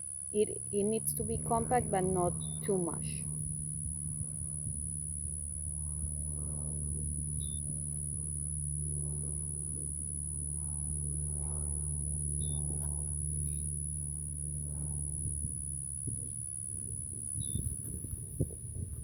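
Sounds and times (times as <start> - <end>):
high whine: 0.0 - 19.0
low mechanical hum: 0.0 - 19.0.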